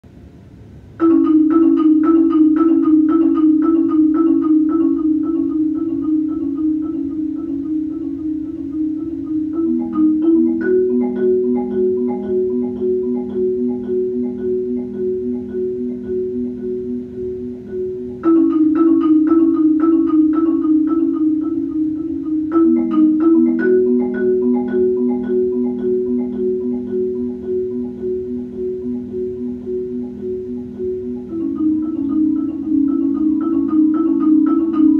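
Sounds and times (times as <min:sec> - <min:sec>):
marimbas playing repeated notes: 0:01.0 - 0:34.9.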